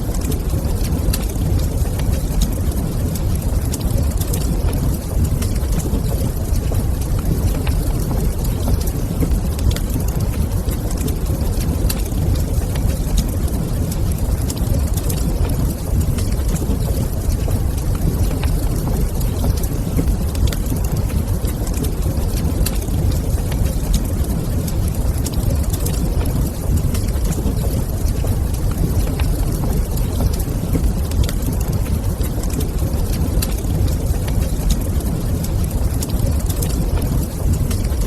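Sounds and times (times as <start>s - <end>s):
fire rumbling: 0.0s - 38.0s
wood fire crackling: 0.0s - 38.0s.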